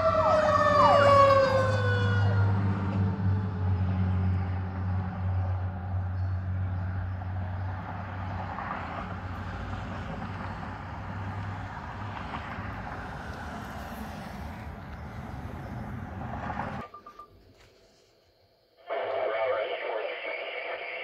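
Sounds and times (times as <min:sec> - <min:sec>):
large vehicle engine drone: 0:00.0 - 0:16.9
passing car traffic: 0:00.0 - 0:17.2.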